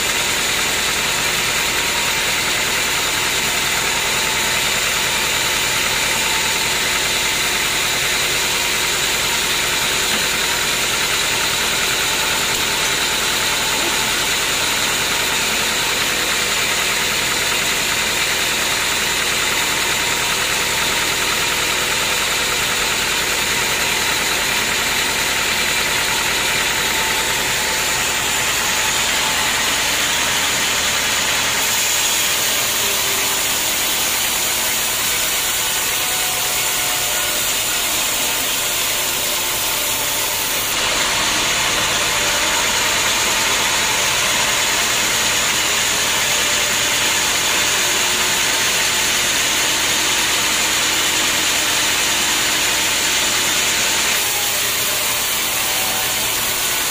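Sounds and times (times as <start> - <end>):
band sawmill drone: 0.0 - 56.9.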